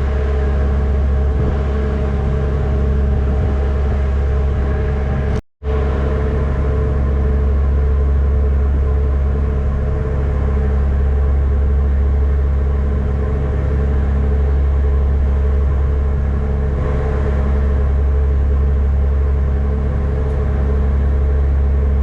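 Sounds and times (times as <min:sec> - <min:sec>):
deep ferry engine drone: 0:00.0 - 0:22.0
steady hum: 0:00.0 - 0:22.0.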